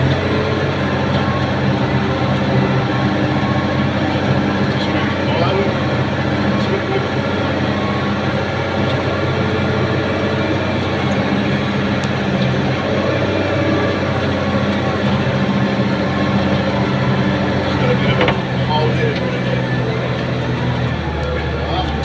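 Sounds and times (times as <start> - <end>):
large engine droning: 0.0 - 22.0.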